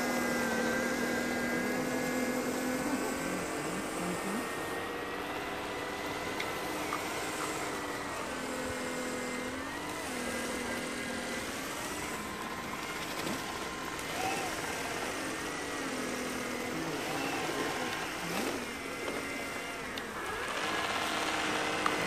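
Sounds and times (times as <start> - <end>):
small motors whining: 0.0 - 22.0.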